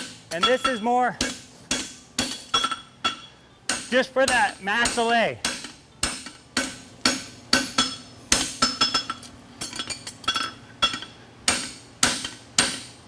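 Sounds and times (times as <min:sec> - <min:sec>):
hammer striking metal on anvil: 0:00.0 - 0:13.0.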